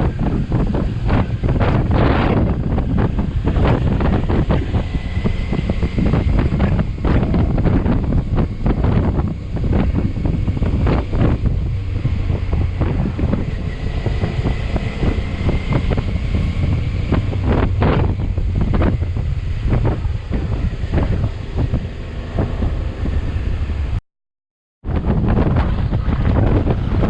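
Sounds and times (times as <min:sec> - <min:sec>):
motorcycle engine running: 0:00.0 - 0:24.0
wind buffeting microphone: 0:00.0 - 0:24.0, 0:24.8 - 0:27.0.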